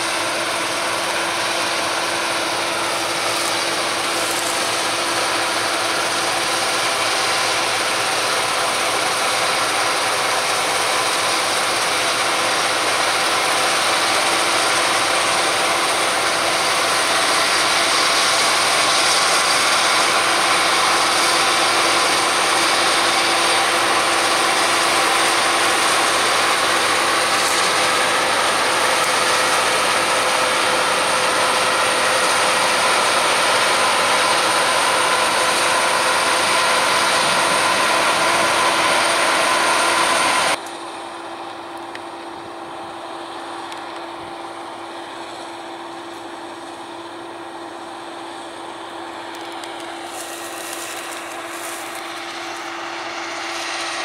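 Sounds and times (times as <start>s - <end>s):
combine harvester running: 0.0s - 54.0s
steady humming tones: 0.0s - 54.0s.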